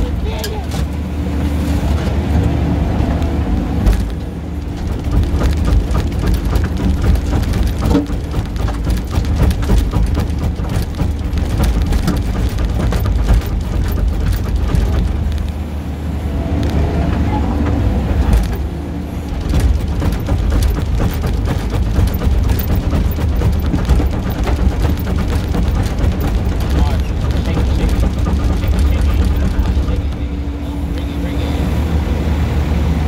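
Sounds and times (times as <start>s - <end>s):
machine clanks and rattles: 0.0s - 32.0s
diesel engine droning under load: 0.0s - 33.0s.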